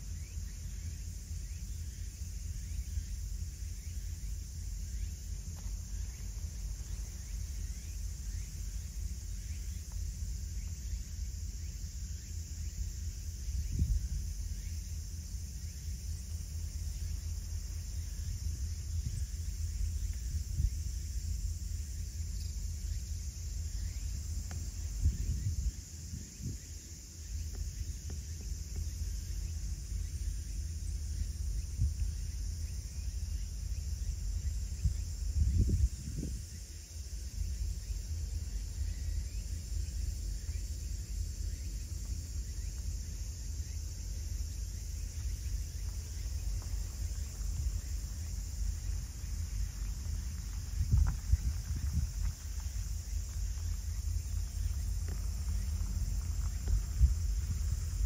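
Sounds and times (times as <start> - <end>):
insects shrilling: 0.0 - 58.0
low uneven rumble: 0.0 - 58.0.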